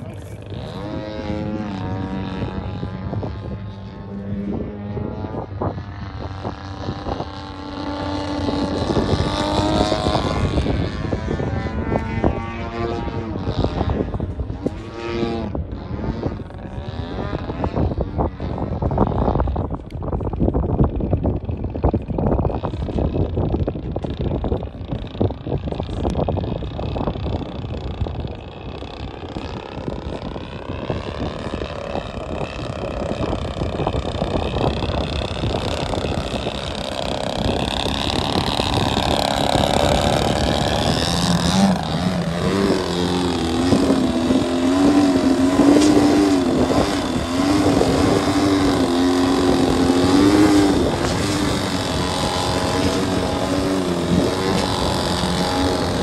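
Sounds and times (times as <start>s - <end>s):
model plane propeller drone: 0.0s - 56.0s
wind buffeting microphone: 0.0s - 56.0s.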